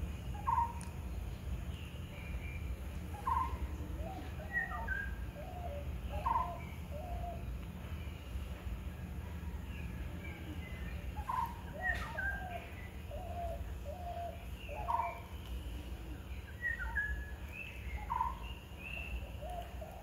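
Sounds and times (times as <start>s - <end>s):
birds singing: 0.0s - 20.0s
steady low rumble: 0.0s - 20.0s.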